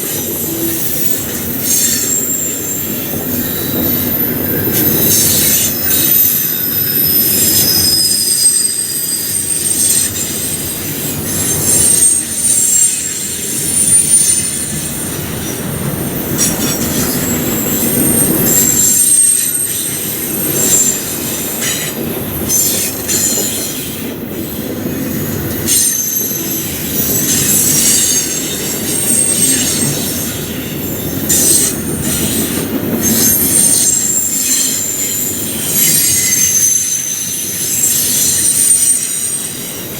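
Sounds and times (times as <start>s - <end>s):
freight train rumble: 0.0s - 39.9s
rail clacks: 0.0s - 39.9s
steel wheels squealing: 0.0s - 39.9s.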